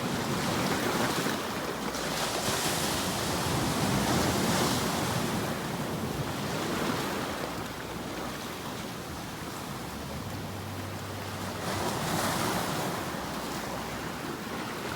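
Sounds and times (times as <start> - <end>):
ocean waves washing ashore: 0.0 - 14.9.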